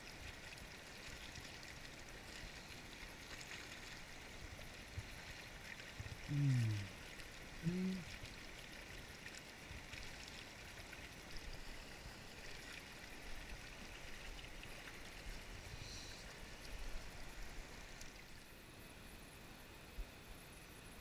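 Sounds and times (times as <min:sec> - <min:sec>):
shallow stream flowing: 0:00.0 - 0:21.0.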